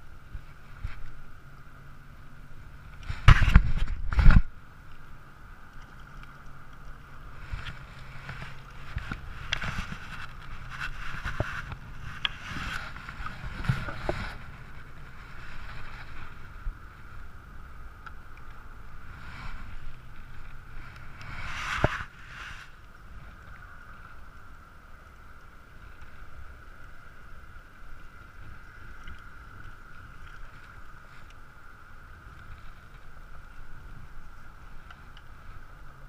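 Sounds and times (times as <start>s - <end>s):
muffled rumble of wind and water: 0.0s - 36.0s.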